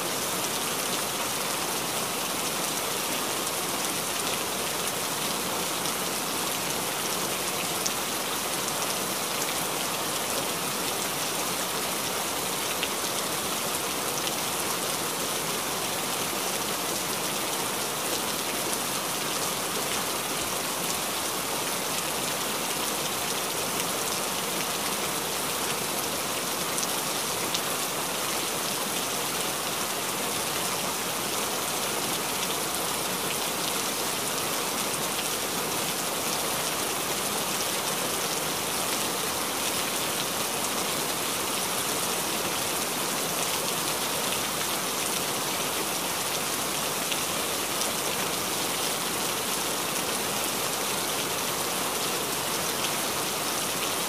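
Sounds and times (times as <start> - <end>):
steady rain-like hiss: 0.0 - 54.0.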